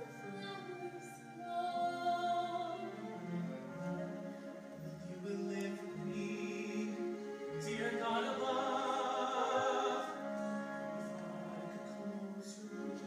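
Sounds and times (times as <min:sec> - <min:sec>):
singing ballad duet: 0:00.0 - 0:03.6, 0:04.9 - 0:13.0
orchestral accompaniment: 0:00.0 - 0:13.0.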